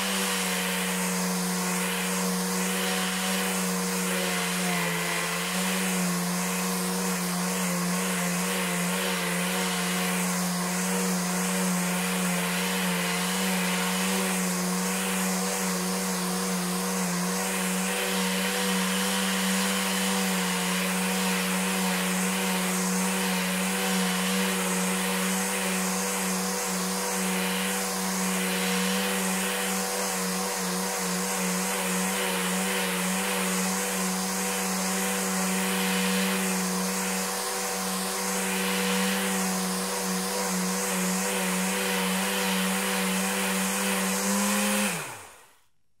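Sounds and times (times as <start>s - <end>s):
electric sander running: 0.0s - 45.5s.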